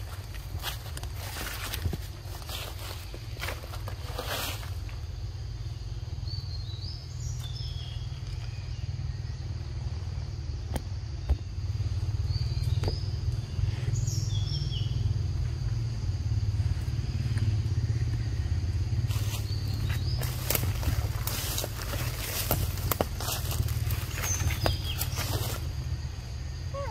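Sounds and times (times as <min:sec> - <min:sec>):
steady low rumble: 0:00.0 - 0:26.8
forest birds calling: 0:00.0 - 0:26.9.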